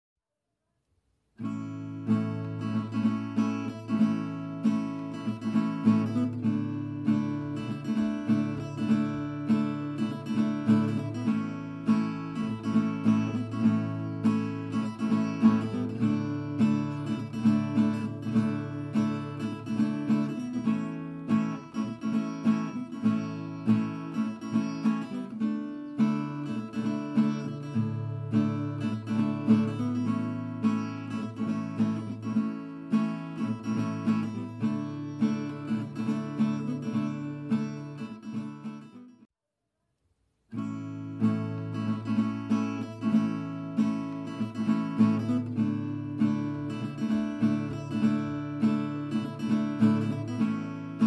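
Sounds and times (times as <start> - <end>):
acoustic guitar picking: 1.4 - 39.2, 40.5 - 51.0.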